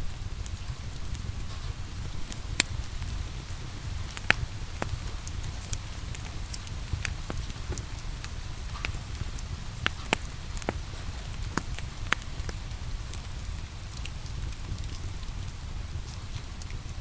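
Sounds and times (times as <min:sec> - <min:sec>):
rain falling: 0:00.0 - 0:17.0
wood fire crackling: 0:00.0 - 0:17.0.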